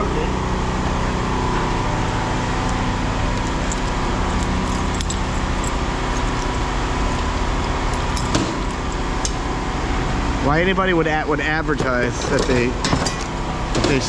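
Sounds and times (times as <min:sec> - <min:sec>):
engine idling with whine: 0:00.0 - 0:14.0.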